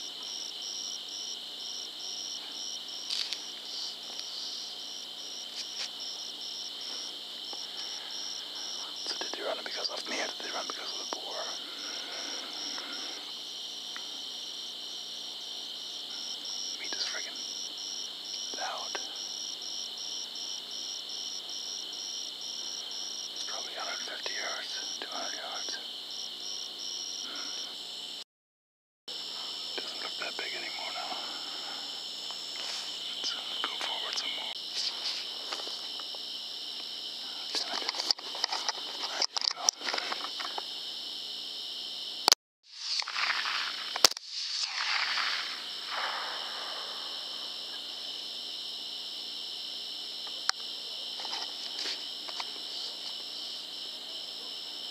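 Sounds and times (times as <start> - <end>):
insect chirping in regular pulse: 0.0 - 28.2, 29.1 - 54.9
insect high trill: 0.0 - 28.2, 29.2 - 54.9.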